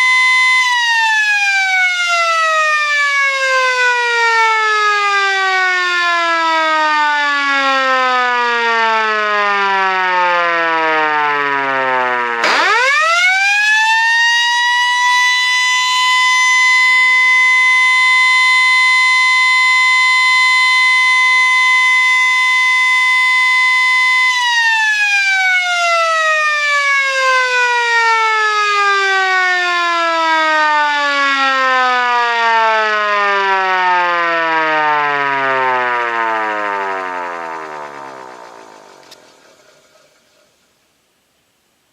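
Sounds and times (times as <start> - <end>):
electromechanical siren wailing: 0.0 - 40.6.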